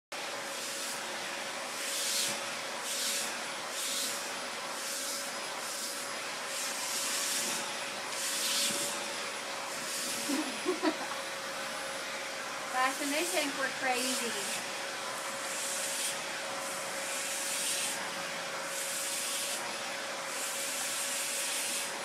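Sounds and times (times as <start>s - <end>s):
vacuum cleaner running: 0.1s - 22.0s.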